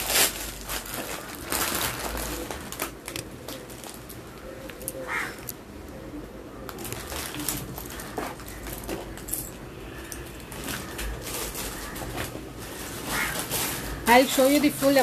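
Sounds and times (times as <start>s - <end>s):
rustling: 0.0s - 5.5s, 6.7s - 15.0s.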